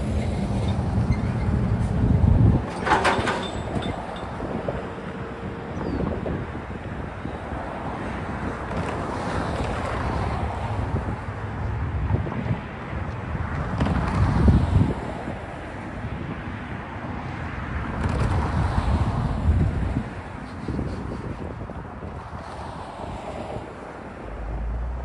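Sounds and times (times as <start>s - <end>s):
wind buffeting microphone: 0.0s - 24.6s
cars driving past: 0.0s - 25.0s.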